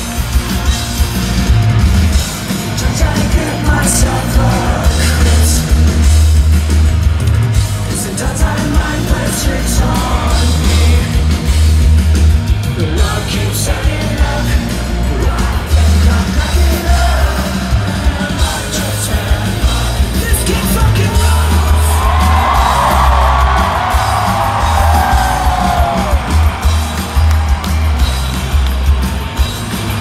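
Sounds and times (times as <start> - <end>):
crowd yelling and singing along: 0.0 - 30.0
live punk rock band: 0.0 - 30.0.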